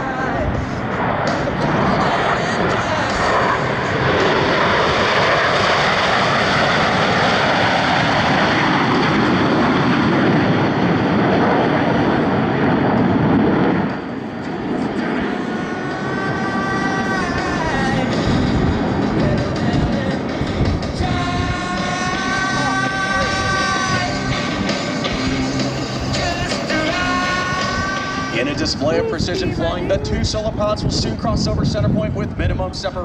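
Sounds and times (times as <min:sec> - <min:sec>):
jets roaring overhead: 0:00.0 - 0:33.0.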